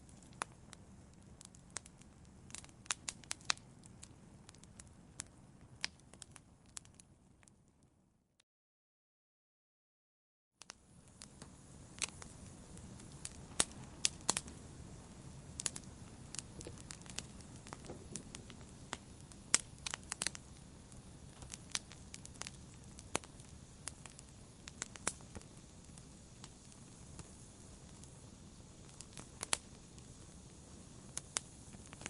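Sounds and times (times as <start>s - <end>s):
fireplace fire crackling: 0.0s - 8.0s, 10.6s - 32.0s.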